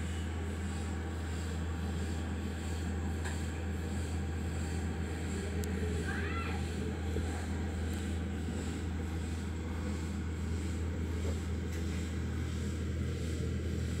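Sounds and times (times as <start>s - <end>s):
steady low machine hum: 0.0s - 14.0s.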